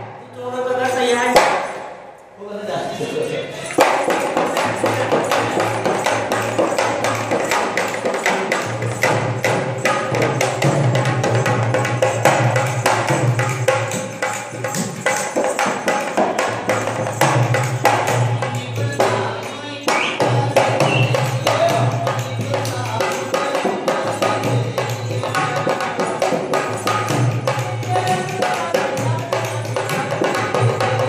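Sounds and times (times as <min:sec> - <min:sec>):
hand drum rhythm: 0:01.2 - 0:01.8, 0:03.7 - 0:31.0.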